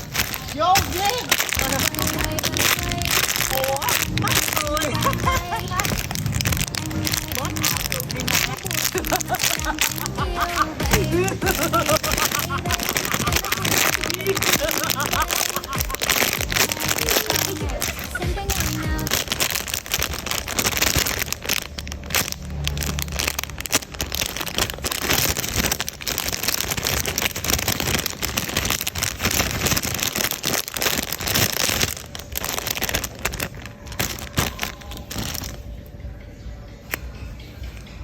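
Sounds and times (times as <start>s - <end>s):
plastic packaging crinkling: 0.0s - 35.8s.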